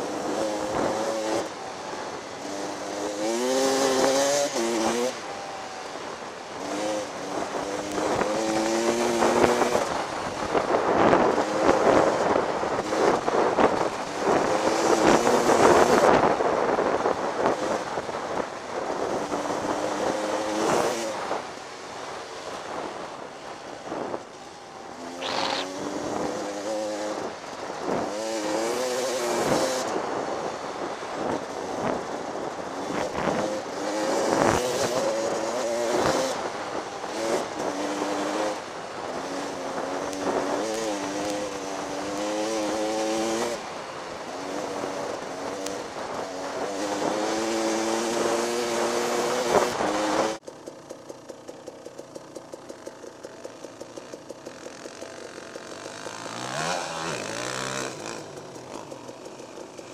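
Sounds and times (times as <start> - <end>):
dirt bike engine revving: 0.0 - 22.8, 24.8 - 59.9
wind rushing over microphone: 0.0 - 50.4.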